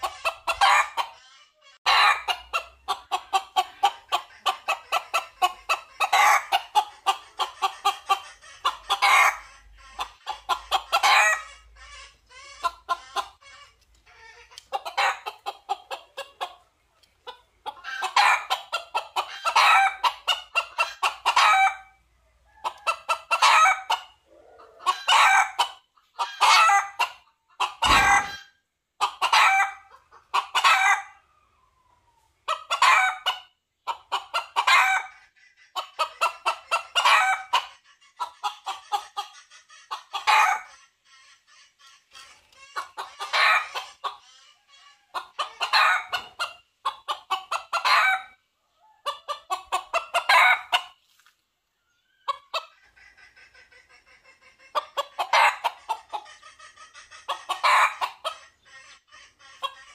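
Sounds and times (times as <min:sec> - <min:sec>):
rooster clucking and crowing: 0:00.0 - 0:16.6, 0:17.2 - 0:31.5, 0:32.4 - 0:40.8, 0:41.9 - 0:51.0, 0:52.2 - 0:59.9.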